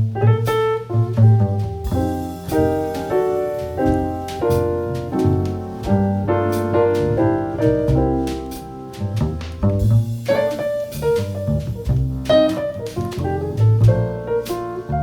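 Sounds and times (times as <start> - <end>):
bass line: 0.0 - 15.0
piano chords: 0.0 - 15.0.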